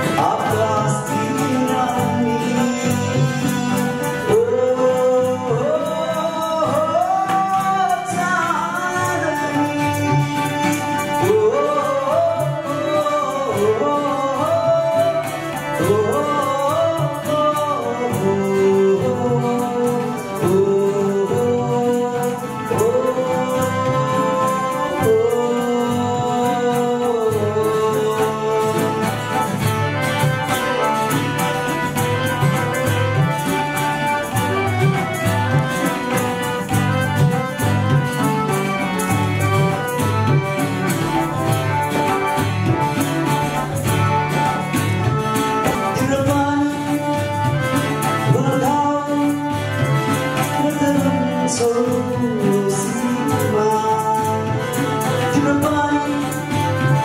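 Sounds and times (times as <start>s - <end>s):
man singing: 0.0s - 43.9s, 44.6s - 57.0s
hand drum beat: 0.0s - 57.0s
harmonium chords: 0.0s - 57.0s
strummed acoustic guitar: 0.0s - 57.0s.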